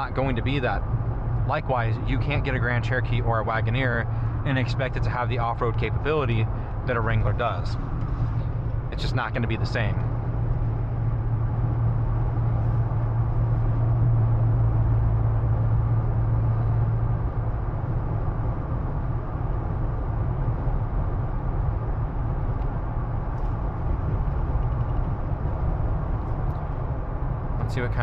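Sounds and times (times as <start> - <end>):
constant low hum: 0.0 - 28.0
road and wind rush: 0.0 - 28.0.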